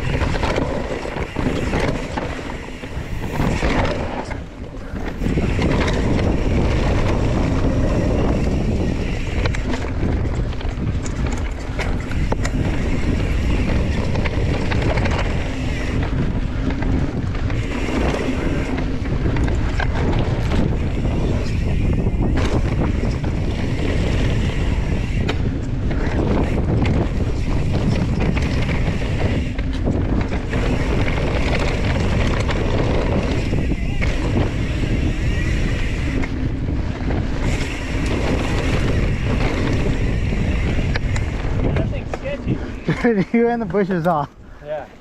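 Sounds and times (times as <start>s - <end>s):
bike knocks and rattles: 0.0s - 43.4s
wind buffeting microphone: 0.0s - 45.0s.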